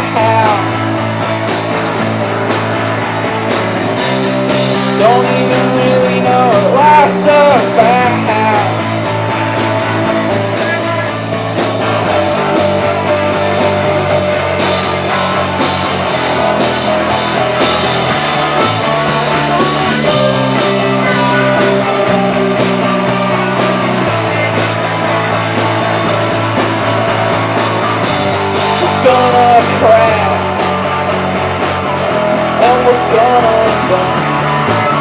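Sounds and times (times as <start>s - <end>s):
bass guitar held notes: 0.0s - 35.0s
live rock band playing: 0.0s - 35.0s.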